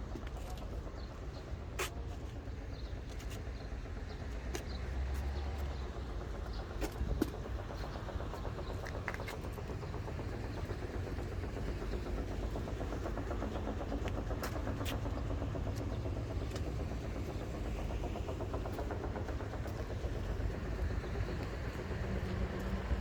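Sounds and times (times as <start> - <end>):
diesel bus engine idling: 0.0 - 23.0.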